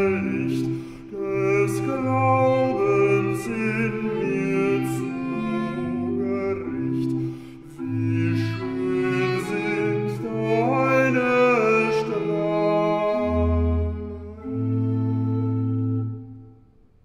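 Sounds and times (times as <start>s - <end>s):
bass singer singing a hymn: 0.0s - 15.6s
violin: 0.0s - 16.5s
organ: 0.0s - 17.0s.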